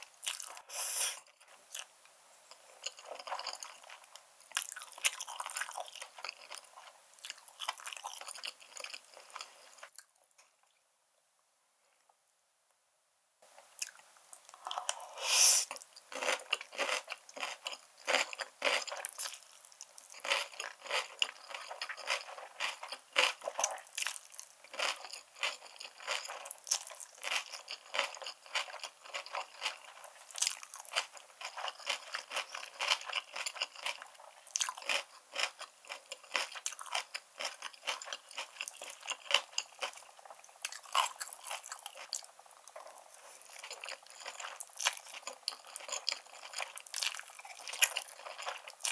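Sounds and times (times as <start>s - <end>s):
close-miked chewing noodles: 2.5s - 10.1s, 13.6s - 48.9s.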